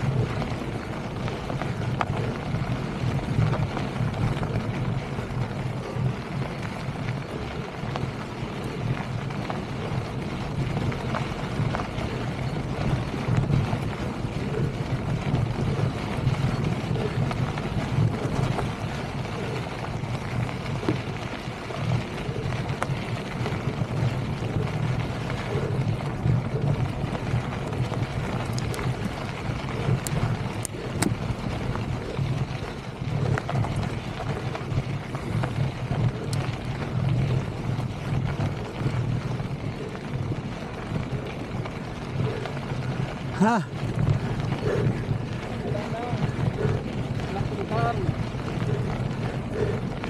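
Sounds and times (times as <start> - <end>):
bike rattling: 0.0 - 50.0
bike tyres crunching on stones: 0.0 - 50.0
wind buffeting microphone: 0.0 - 50.0.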